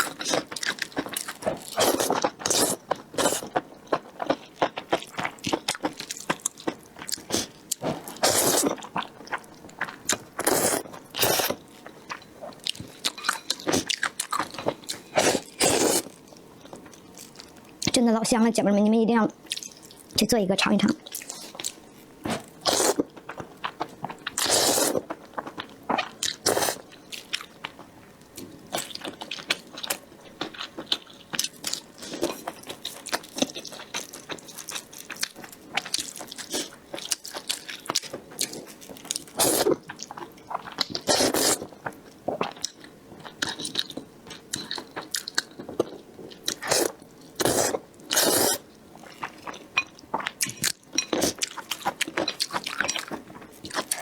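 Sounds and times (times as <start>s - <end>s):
slurping and chewing noodles: 0.0s - 16.2s, 21.0s - 27.8s, 28.7s - 54.0s.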